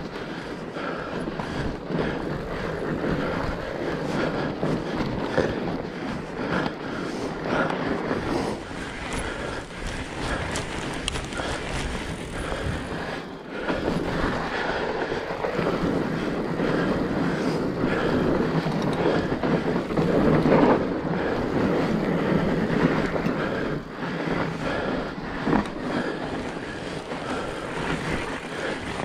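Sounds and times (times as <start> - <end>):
bike rattling: 0.0 - 29.0
bike tyres rushing on trail: 0.0 - 29.0
wind on microphone: 0.0 - 29.0.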